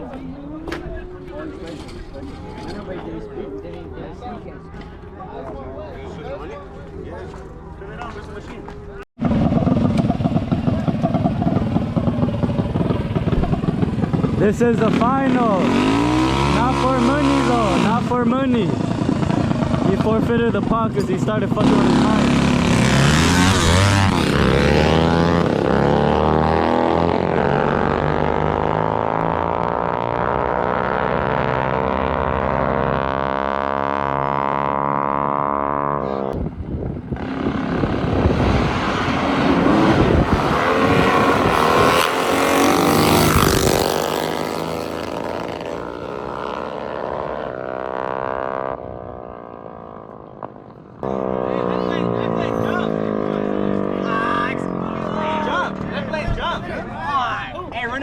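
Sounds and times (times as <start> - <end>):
mini bike engines at full throttle: 0.7 - 5.4, 9.2 - 58.0.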